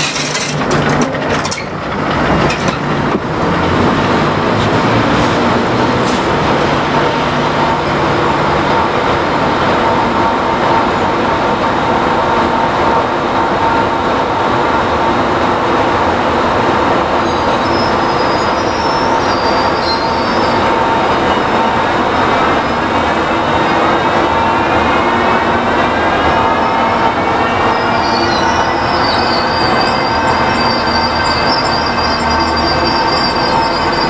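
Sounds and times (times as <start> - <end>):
train rolling on track: 0.0 - 34.0.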